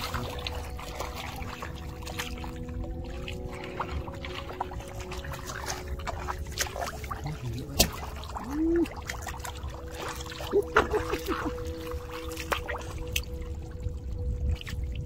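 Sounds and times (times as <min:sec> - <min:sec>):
water splashing while wading: 0:00.0 - 0:15.0.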